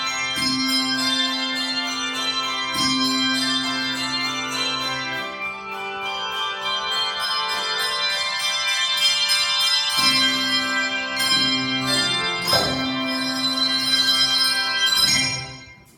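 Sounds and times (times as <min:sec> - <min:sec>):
handbells playing a tune: 0:00.0 - 0:15.9
sustained low bell tones: 0:00.0 - 0:15.9.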